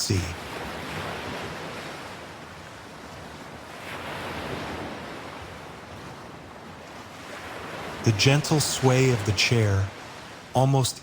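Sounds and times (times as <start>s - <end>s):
ocean waves washing on shore: 0.0s - 11.0s.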